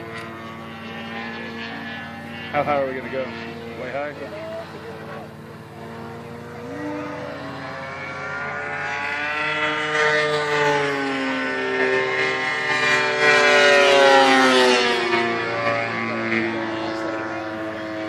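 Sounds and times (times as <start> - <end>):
model airplane engines running hard: 0.0 - 18.0.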